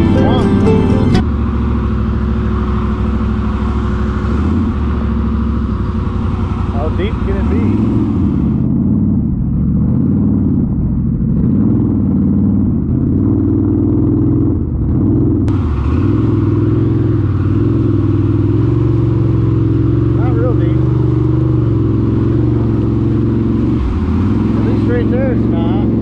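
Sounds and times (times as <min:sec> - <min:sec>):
quad bike engine revving: 0:00.0 - 0:10.6, 0:11.3 - 0:26.0.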